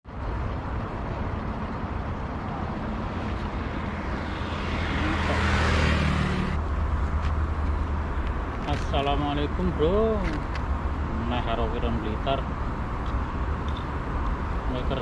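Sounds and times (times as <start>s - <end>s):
vehicle passing rush: 0.1s - 15.0s.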